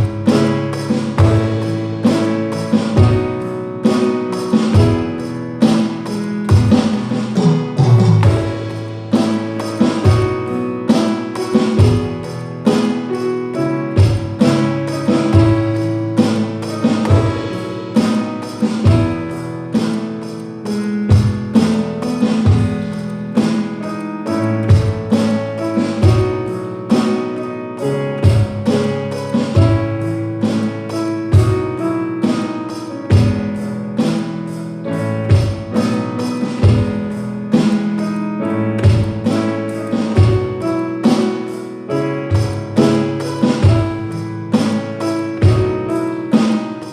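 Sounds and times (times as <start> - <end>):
drum kit playing: 0.0 - 46.9.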